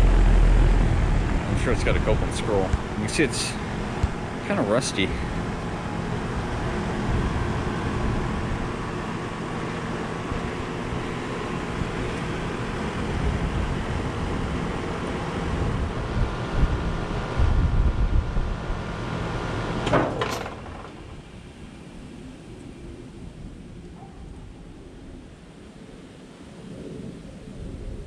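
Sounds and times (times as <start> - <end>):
heat pump compressor and fan hum: 0.0 - 26.0.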